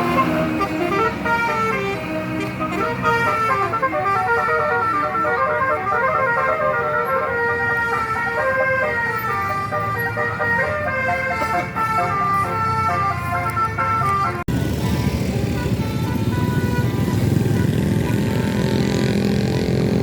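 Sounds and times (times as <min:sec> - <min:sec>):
bus horn playing a tune: 0:00.0 - 0:20.0.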